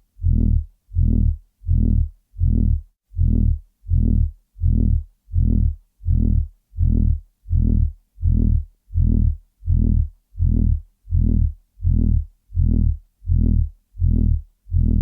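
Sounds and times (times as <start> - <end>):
pulsing low electronic hum: 0.1 - 15.0.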